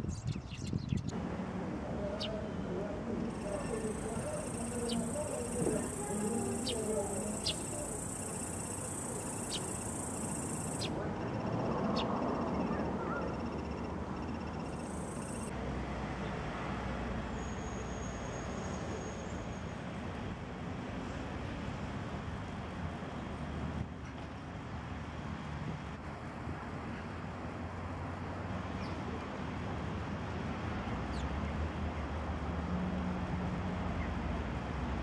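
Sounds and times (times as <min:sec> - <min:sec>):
city street traffic: 0:00.0 - 0:35.0.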